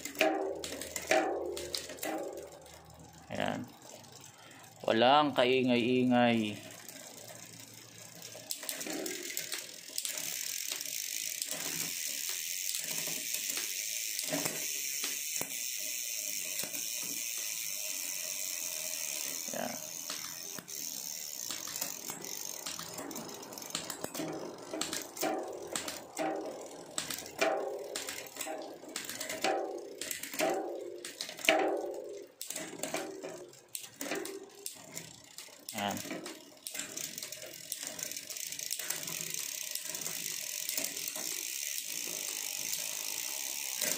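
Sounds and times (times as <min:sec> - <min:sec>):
bicycle chain running over cassette: 0:00.0 - 0:43.9
freehub ratchet ticking: 0:00.0 - 0:43.9
derailleur shifting clicks: 0:06.7 - 0:43.9.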